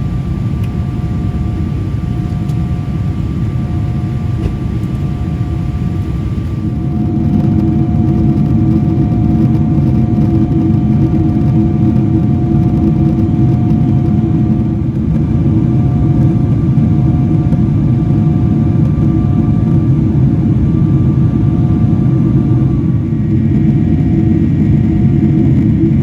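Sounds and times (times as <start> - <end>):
airplane cabin deep rumble: 0.0 - 26.0
faint whining engine tones: 0.0 - 26.0.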